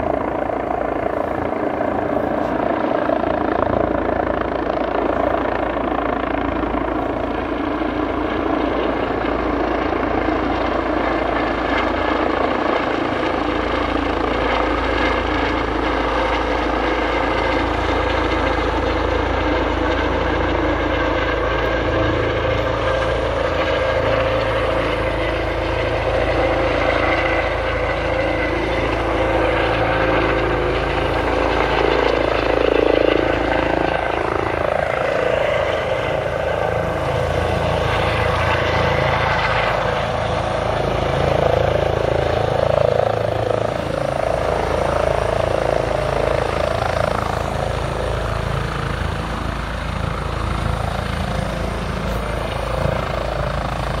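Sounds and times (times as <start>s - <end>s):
helicopter rotor and turbine whine: 0.0s - 54.0s.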